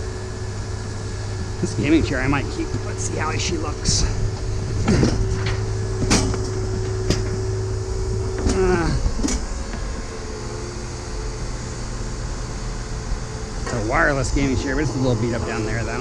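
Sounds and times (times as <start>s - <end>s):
machine tone winding down: 0.0s - 16.0s
machinery hum: 0.0s - 16.0s.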